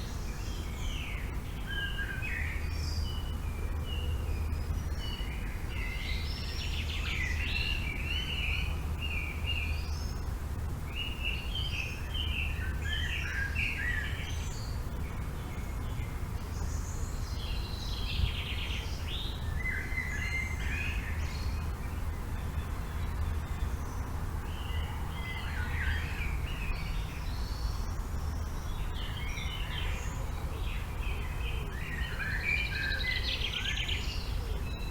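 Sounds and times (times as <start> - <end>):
low rumble of wind: 0.0 - 34.9
songbirds singing: 0.0 - 34.9.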